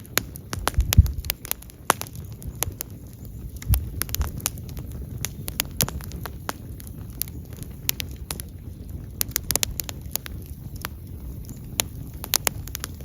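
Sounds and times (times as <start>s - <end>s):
wood fire crackling: 0.0s - 13.0s
low rumble: 0.4s - 13.0s.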